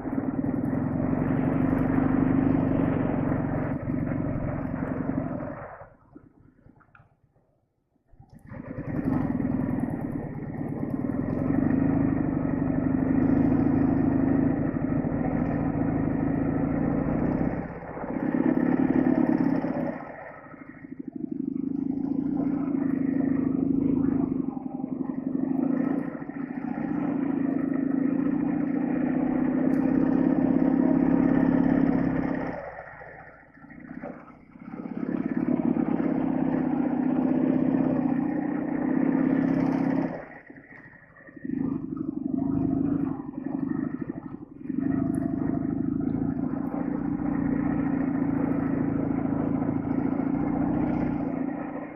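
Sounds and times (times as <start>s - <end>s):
motorcycle engine running: 0.0s - 6.6s, 8.1s - 51.9s.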